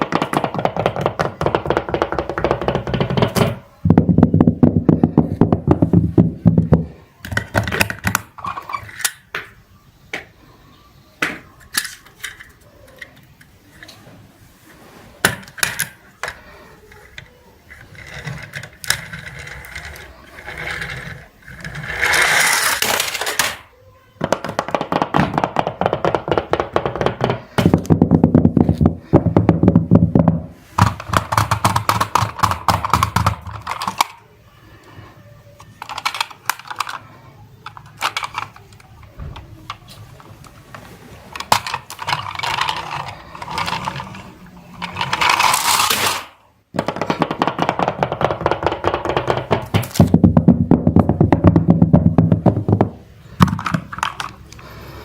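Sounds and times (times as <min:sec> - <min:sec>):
plastic toy vehicles rattling: 0:00.0 - 0:09.3, 0:11.6 - 0:54.8.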